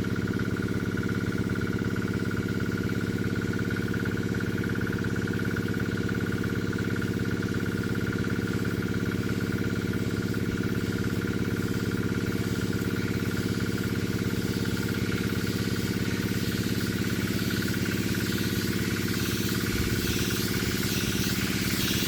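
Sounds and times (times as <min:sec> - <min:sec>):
small diesel engine running: 0:00.0 - 0:22.0.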